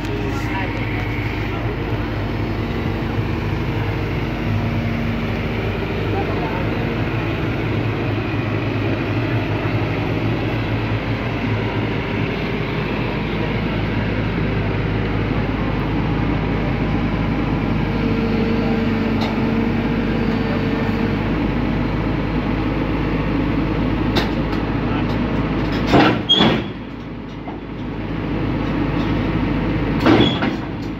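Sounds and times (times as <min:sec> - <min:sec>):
excavator diesel engine: 0:00.0 - 0:30.9
track and machinery noise: 0:00.0 - 0:30.9.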